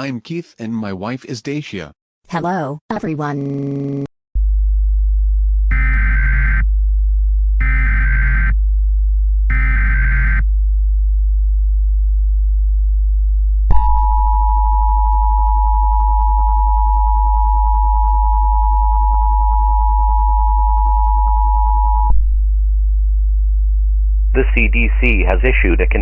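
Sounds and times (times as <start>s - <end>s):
loud low hum: 4.4s - 26.0s.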